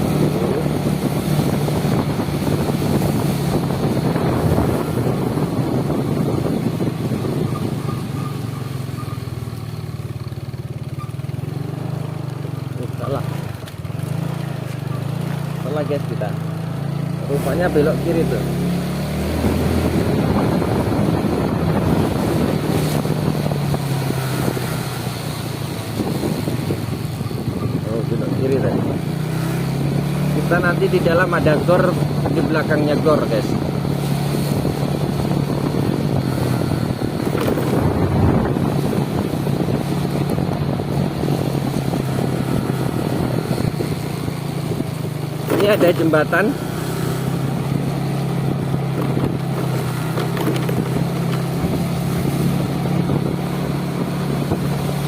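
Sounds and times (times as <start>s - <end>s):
wind buffeting microphone: 0.0s - 9.5s, 10.5s - 55.0s
vehicle engine running: 0.0s - 55.0s.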